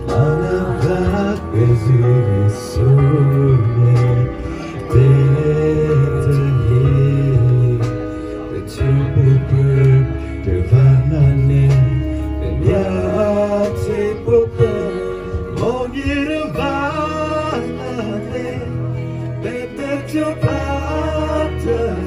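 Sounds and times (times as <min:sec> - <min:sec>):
instrumental backing with low bass: 0:00.0 - 0:22.0
man singing: 0:00.0 - 0:22.0.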